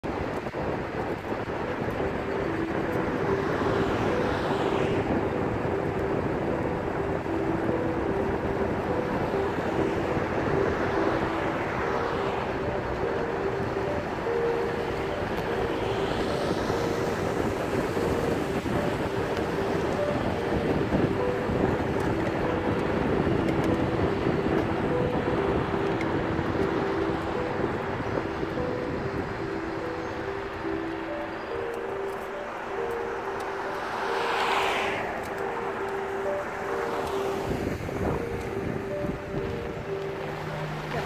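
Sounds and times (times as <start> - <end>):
vehicle engine and tyre noise: 0.0 - 41.0
vehicles passing by: 0.0 - 41.0.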